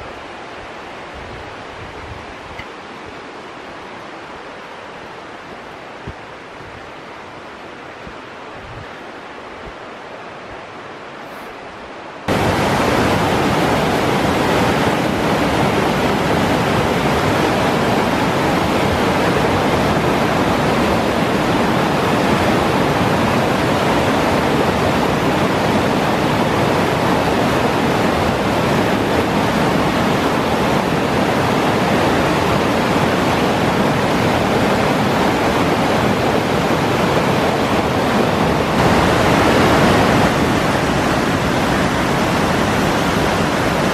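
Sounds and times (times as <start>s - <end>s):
waterfall rushing over rocks: 0.0s - 43.9s.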